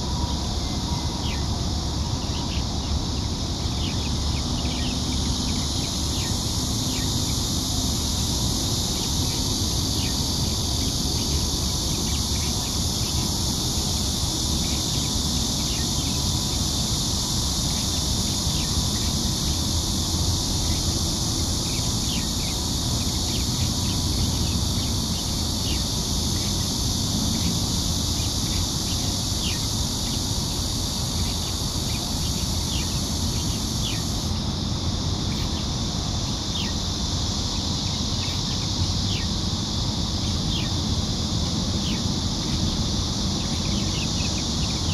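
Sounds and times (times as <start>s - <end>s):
insect chorus hiss: 0.0s - 44.9s.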